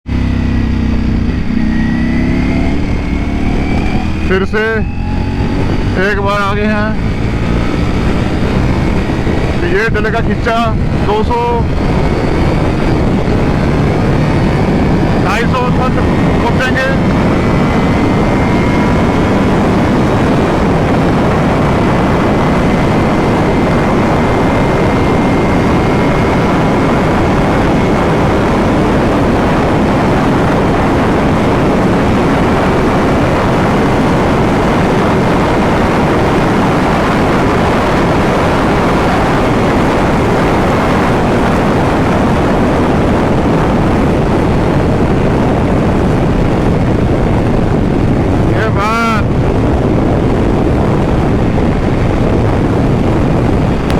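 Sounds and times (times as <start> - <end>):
faint motorcycle engine: 0.0 - 53.9
wind rushing over microphone: 0.0 - 53.9.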